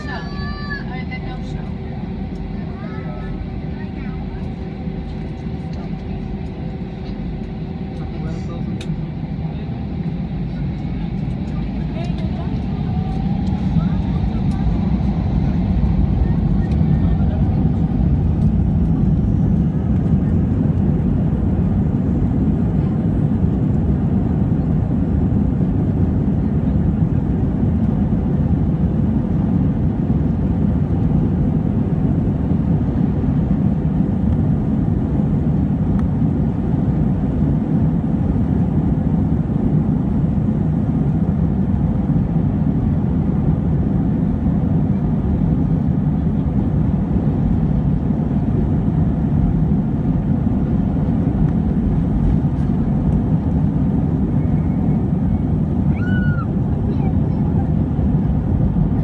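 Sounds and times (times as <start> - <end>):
jet engines at takeoff power: 0.0 - 59.0
wheels rumbling on runway: 0.0 - 59.0.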